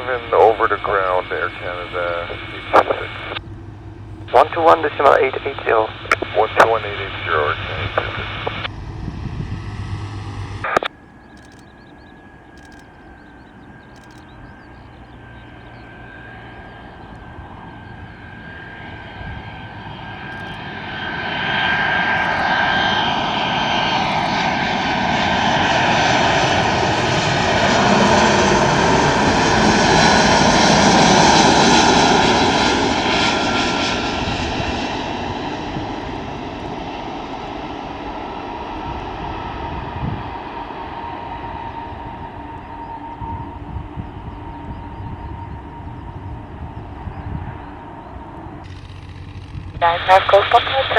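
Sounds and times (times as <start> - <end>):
jet airliner engines passing: 0.0 - 50.9.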